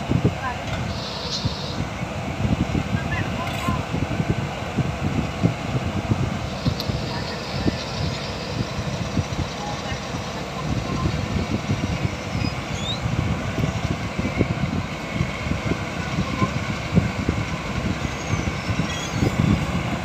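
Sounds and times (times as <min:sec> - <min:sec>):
diesel engine rumbling with knocks: 0:00.0 - 0:20.0.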